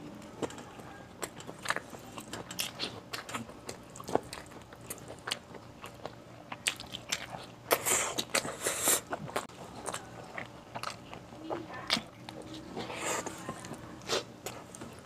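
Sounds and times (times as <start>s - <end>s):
person chewing food: 0.2s - 15.0s.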